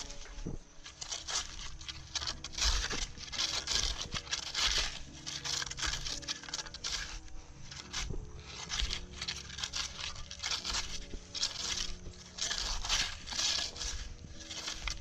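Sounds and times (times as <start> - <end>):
hand tool scraping wet mud: 0.0 - 15.0.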